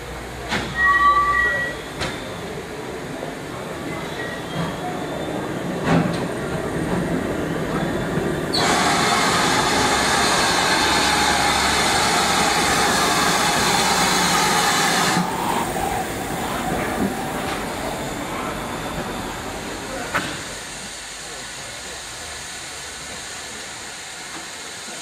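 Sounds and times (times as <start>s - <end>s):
steam hissing: 1.9s - 25.0s.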